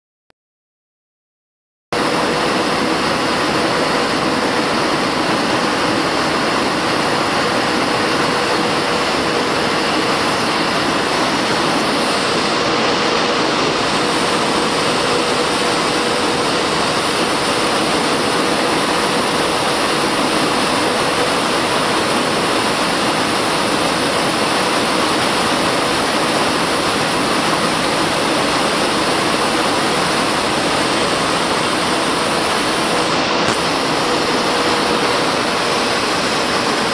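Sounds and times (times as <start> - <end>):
jet engine and airflow rush: 1.9 - 36.9.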